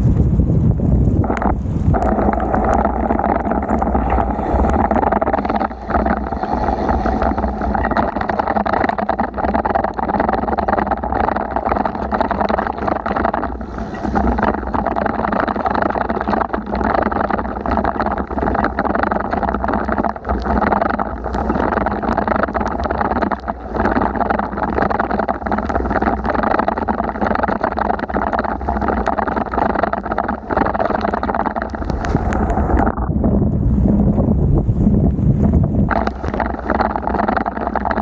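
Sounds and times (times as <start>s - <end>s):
bicycle on wet road: 0.0s - 34.2s
wind on microphone: 0.0s - 38.0s
small clicks: 1.0s - 32.9s
heavy rain: 1.3s - 33.0s, 35.9s - 38.0s.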